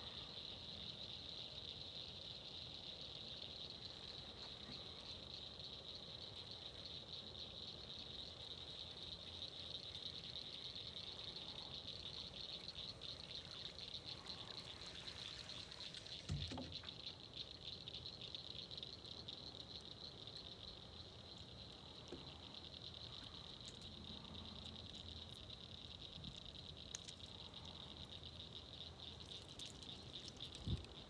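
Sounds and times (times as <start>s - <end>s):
insect chorus buzzing trill: 0.0s - 31.0s.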